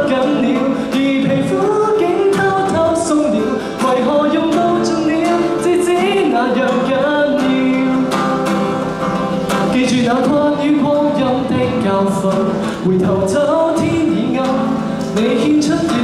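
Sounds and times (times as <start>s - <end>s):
acoustic guitar strumming: 0.0s - 16.0s
man singing pop song: 0.0s - 16.0s.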